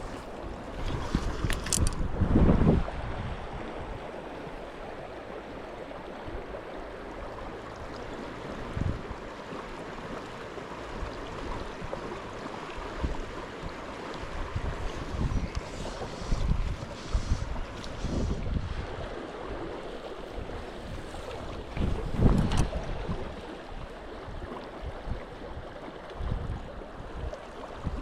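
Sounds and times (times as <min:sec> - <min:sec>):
wind buffeting microphone: 0:00.0 - 0:04.7, 0:08.5 - 0:09.3, 0:10.9 - 0:28.0
river water running: 0:00.0 - 0:28.0.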